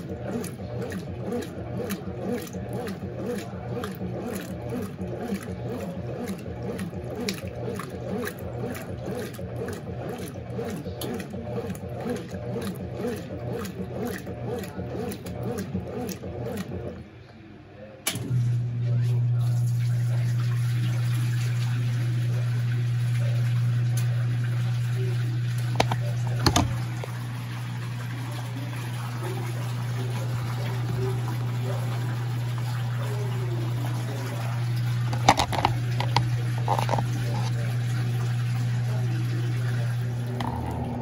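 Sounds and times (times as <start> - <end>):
running water: 0.0 - 16.8, 18.9 - 41.0
washing machine drain pump humming: 0.0 - 17.2, 18.1 - 41.0.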